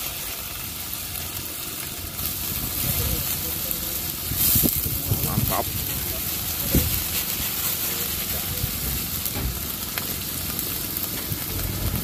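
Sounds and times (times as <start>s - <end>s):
greens sizzling in oil: 0.0s - 12.0s.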